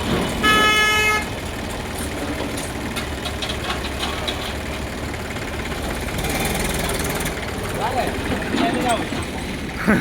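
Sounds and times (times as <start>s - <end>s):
diesel engine running at low revs: 0.0s - 10.0s.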